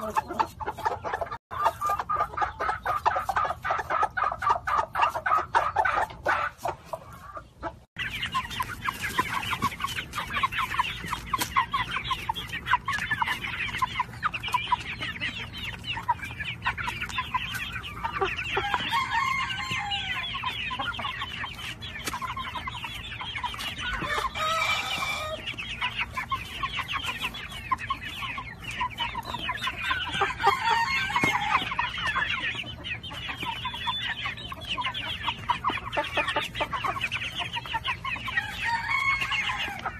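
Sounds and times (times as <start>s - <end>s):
young chickens clucking and cheeping: 0.0s - 39.9s.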